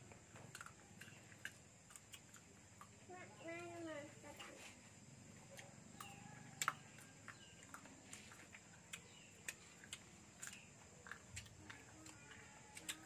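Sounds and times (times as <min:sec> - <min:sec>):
small eating clicks: 0:00.0 - 0:04.5, 0:05.4 - 0:13.0.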